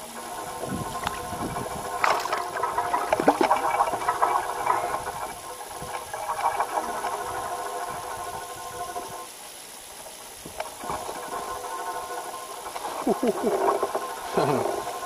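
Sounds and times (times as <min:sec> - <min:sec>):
faint steady hum: 0:00.0 - 0:15.0
water splashing and sloshing: 0:00.0 - 0:15.0.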